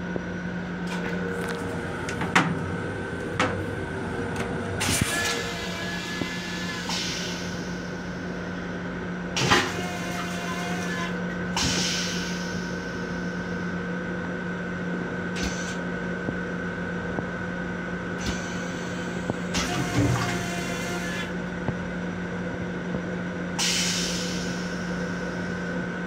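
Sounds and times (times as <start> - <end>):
electrical hum: 0.0 - 23.6.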